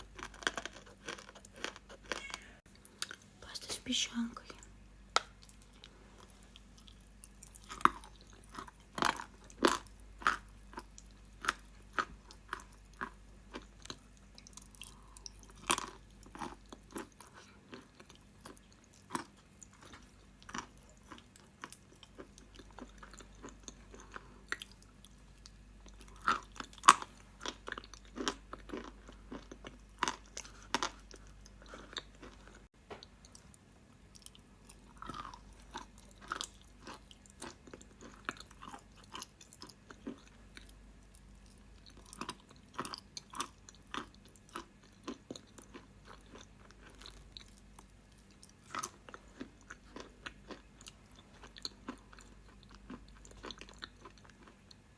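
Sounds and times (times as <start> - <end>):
crunchy biting and chewing: 0.0 - 3.2, 5.2 - 32.7, 34.2 - 54.8.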